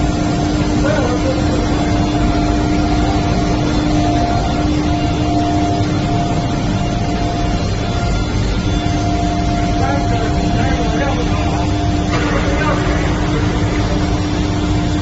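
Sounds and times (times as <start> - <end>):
loud steady machine hum: 0.0 - 15.0.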